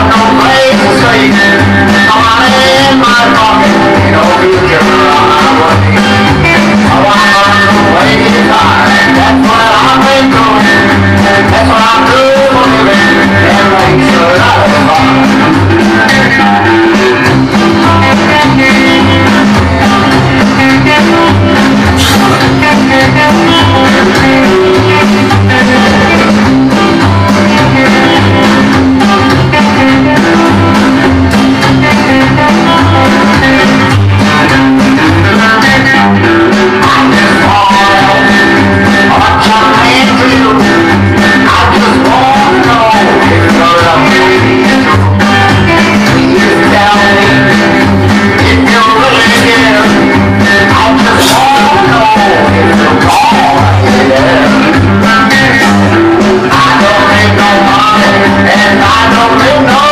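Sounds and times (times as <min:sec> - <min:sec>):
rock and roll record playing: 0:00.0 - 0:59.9.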